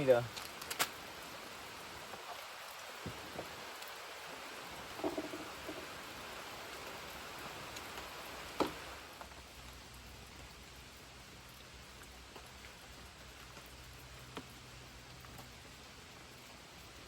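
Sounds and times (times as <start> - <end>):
rain on a tarp: 0.0 - 17.0.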